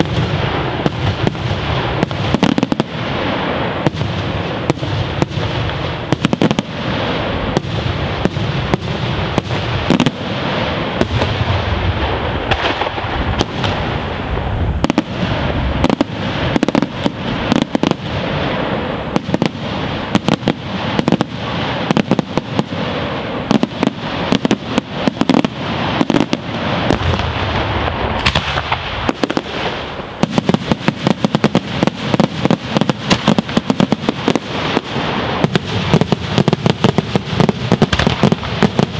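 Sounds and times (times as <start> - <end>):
firework shells bursting: 0.0 - 38.9
fireworks crackling: 0.0 - 38.9.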